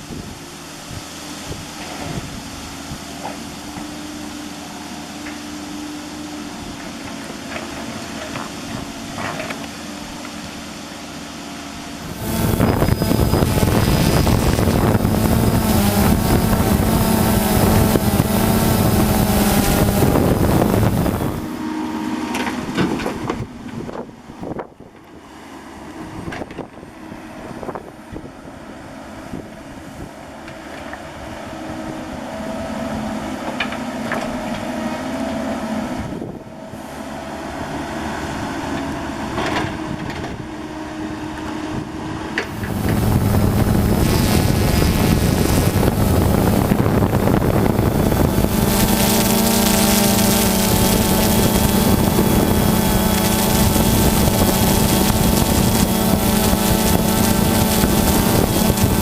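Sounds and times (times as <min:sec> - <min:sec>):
diesel engine running: 0:00.0 - 0:23.9, 0:31.6 - 0:59.0.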